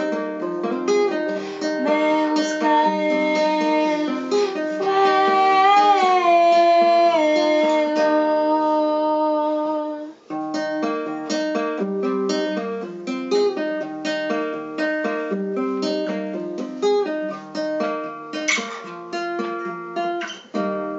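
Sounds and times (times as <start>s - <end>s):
folk song on plucked strings: 0.0s - 20.9s.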